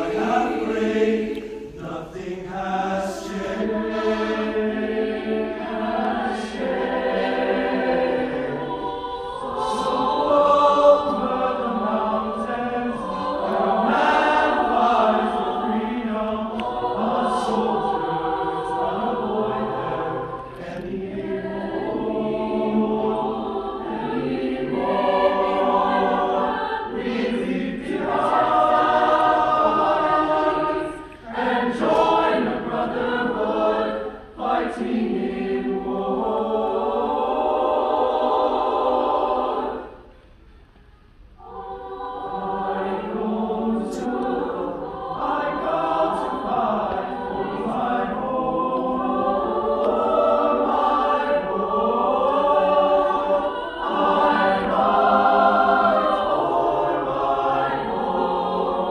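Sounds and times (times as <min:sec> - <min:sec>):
mixed choir singing in parts: 0:00.0 - 0:40.4, 0:41.3 - 0:58.9.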